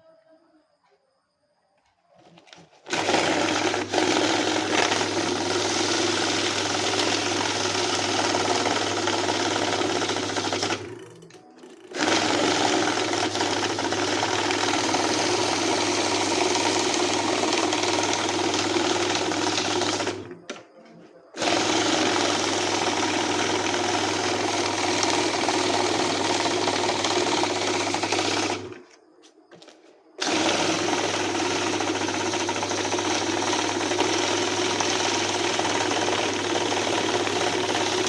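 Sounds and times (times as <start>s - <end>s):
banknote counting machine whirring: 2.4s - 20.6s, 21.3s - 28.8s, 30.2s - 38.0s.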